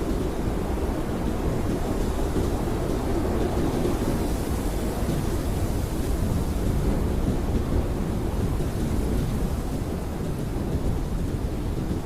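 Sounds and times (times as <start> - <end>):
blizzard wind blowing: 0.0 - 12.0.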